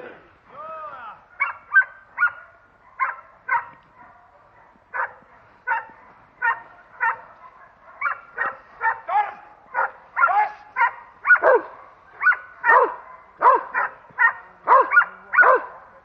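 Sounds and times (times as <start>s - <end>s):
dog barking: 1.3s - 16.0s.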